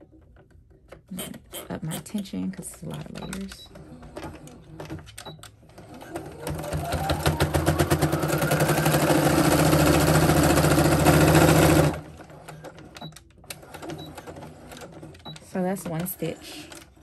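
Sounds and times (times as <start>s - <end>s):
sewing machine stitching: 2.8s - 17.0s.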